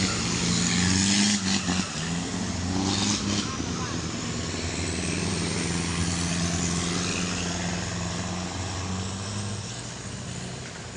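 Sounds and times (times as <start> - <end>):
racing boat engine: 0.0 - 10.9.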